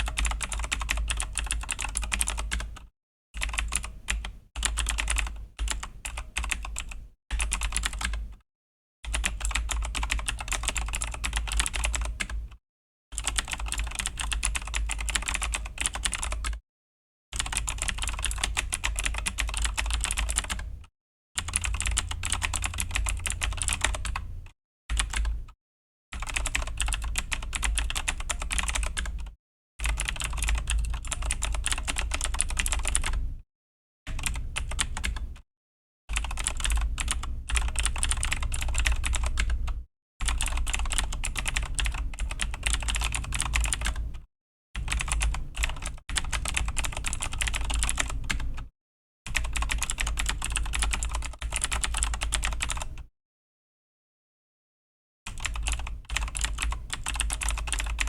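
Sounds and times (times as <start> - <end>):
mechanical keyboard typing: 0.0 - 8.4, 9.1 - 12.4, 13.2 - 16.6, 17.4 - 20.7, 21.4 - 24.3, 24.9 - 25.4, 26.2 - 29.2, 29.8 - 33.2, 34.1 - 35.4, 36.1 - 44.1, 44.8 - 48.6, 49.3 - 53.1, 55.3 - 58.0.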